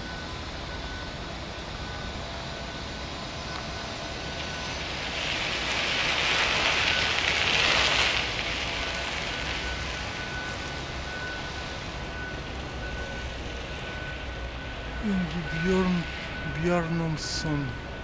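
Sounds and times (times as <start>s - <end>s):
city background rumble: 0.0s - 18.0s.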